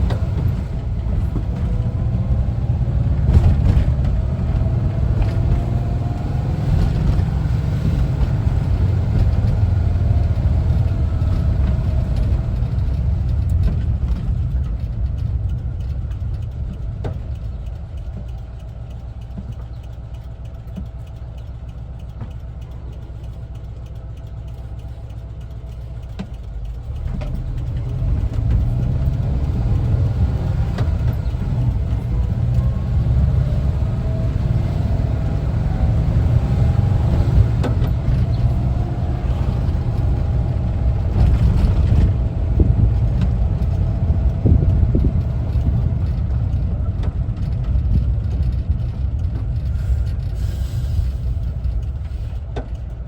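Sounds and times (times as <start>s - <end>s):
van engine accelerating: 0.0s - 53.0s.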